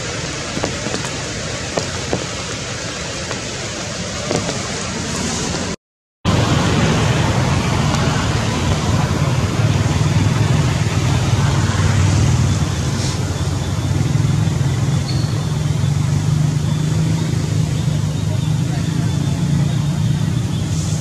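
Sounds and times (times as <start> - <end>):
constant hiss: 0.0 - 21.0.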